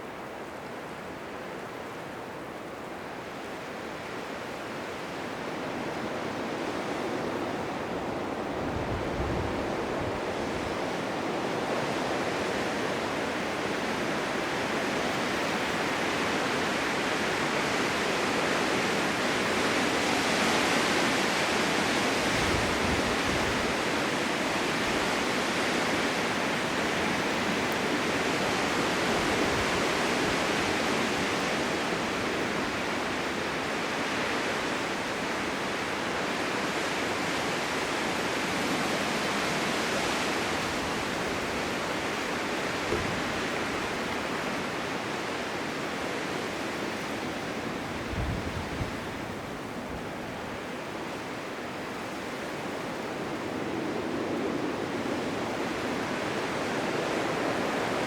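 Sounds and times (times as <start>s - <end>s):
low wind gusts buffeting: 0.0s - 58.0s
blizzard wind rushing: 3.2s - 58.0s.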